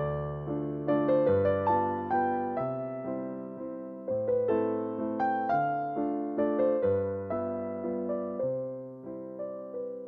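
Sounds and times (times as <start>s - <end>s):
piano notes and chords: 0.0s - 10.0s.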